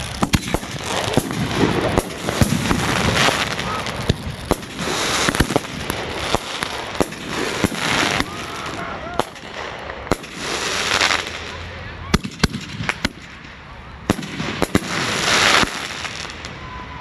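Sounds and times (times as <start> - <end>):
fireworks shots and bursts: 0.0 - 16.9
crackling hiss: 0.0 - 17.0.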